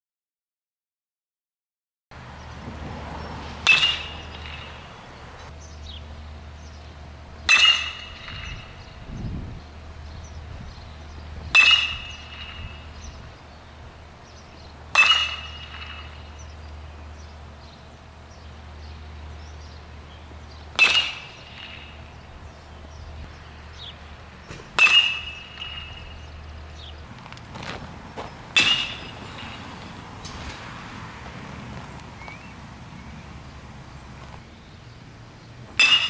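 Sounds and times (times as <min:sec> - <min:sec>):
baseball bat hitting balls: 0:02.7 - 0:32.6, 0:35.6 - 0:36.0.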